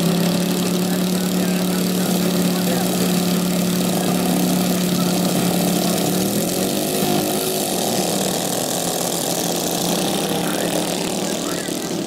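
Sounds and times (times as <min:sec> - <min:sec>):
small petrol engines running: 0:00.0 - 0:12.0.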